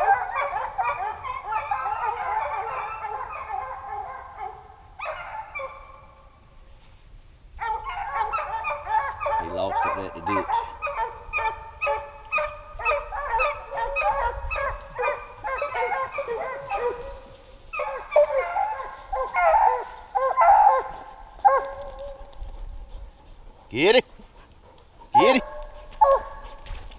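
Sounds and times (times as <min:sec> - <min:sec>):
hounds baying: 0:00.0 - 0:06.5, 0:07.5 - 0:26.9.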